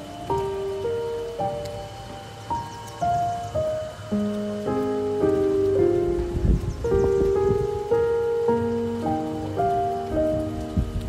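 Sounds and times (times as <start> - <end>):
slow solo piano: 0.0 - 11.0
steady rain: 0.0 - 11.0.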